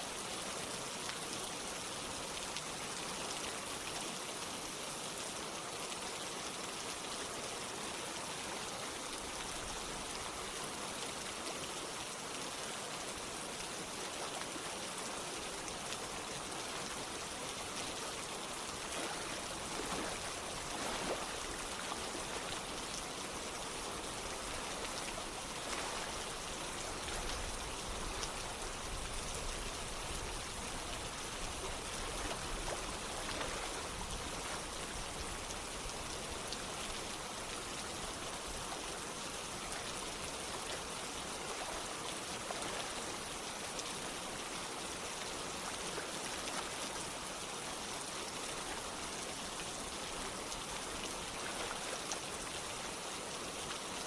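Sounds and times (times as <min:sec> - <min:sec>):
running water: 0:00.0 - 0:54.0
steady rain: 0:00.0 - 0:54.0.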